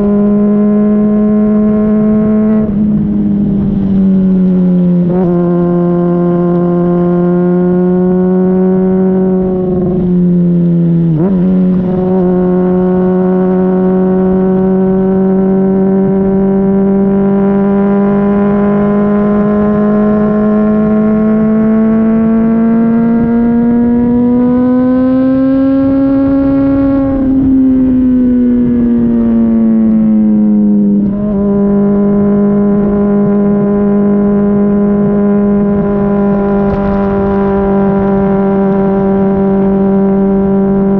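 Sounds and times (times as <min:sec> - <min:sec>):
motorcycle engine at exhaust: 0:00.0 - 0:40.9.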